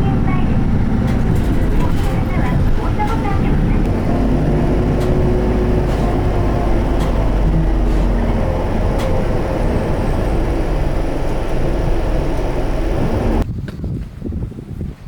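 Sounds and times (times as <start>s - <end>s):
train rumbling: 0.0s - 13.5s.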